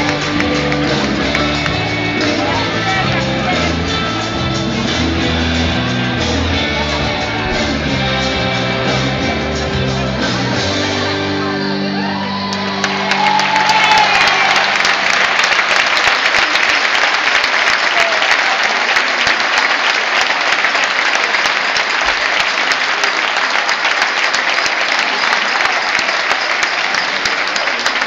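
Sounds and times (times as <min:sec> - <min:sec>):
audience applauding: 0:00.0 - 0:10.7, 0:11.4 - 0:28.0.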